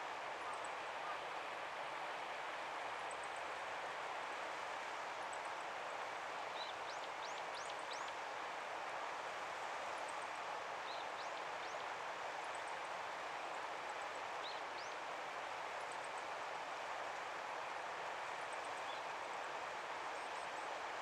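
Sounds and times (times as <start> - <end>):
outdoor background rush: 0.0 - 21.0.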